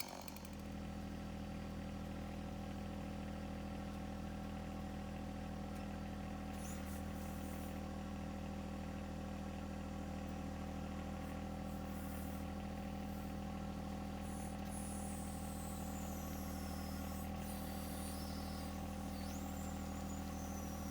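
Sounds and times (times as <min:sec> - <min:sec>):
diesel tractor engine running: 0:00.0 - 0:20.9.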